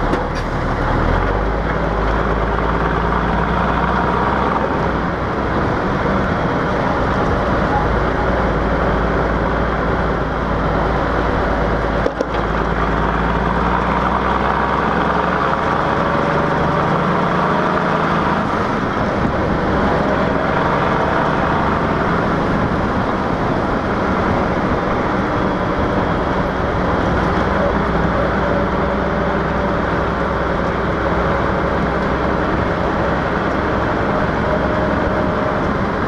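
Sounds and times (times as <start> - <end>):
diesel truck engine running: 0.0 - 36.0
tyre and wind noise: 0.0 - 36.0.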